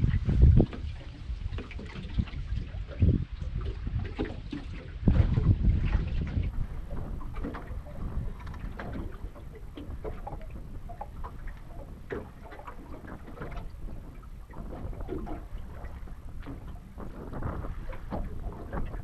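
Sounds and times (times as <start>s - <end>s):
water lapping: 0.0s - 19.0s
wind rumbling on microphone: 0.0s - 19.0s.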